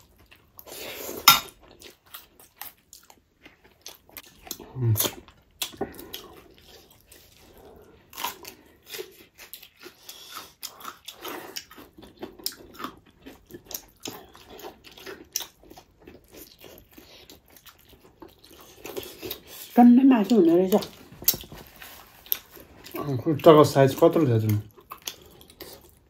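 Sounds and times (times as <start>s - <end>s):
people chewing and lip smacking: 0.0s - 26.0s.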